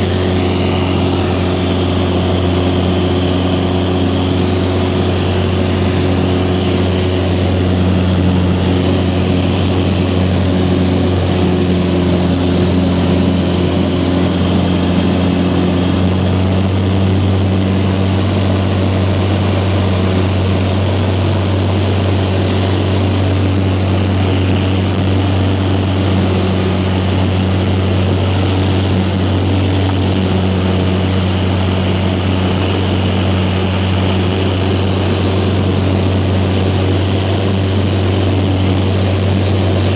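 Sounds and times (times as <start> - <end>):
aircraft engine droning: 0.0 - 39.9
rushing air: 0.0 - 39.9.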